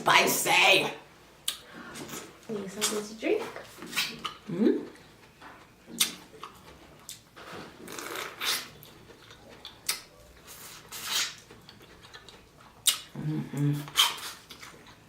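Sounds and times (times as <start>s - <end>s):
person chewing: 1.4s - 2.4s, 3.8s - 15.0s.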